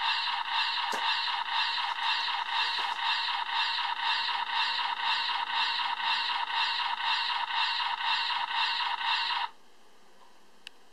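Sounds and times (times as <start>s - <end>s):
harsh pulsing electronic buzz: 0.0s - 9.6s.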